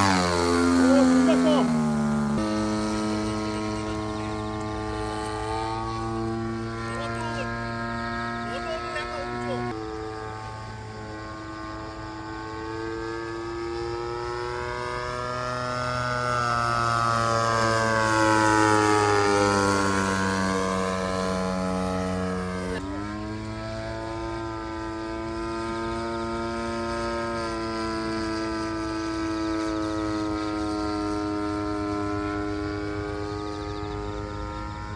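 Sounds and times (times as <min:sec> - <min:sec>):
model plane engine buzzing: 0:00.0 - 0:34.9.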